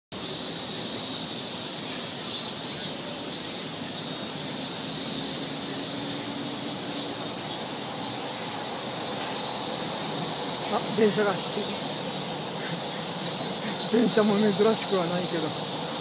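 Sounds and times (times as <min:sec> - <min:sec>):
high-pitched insect chorus: 0:00.2 - 0:16.0.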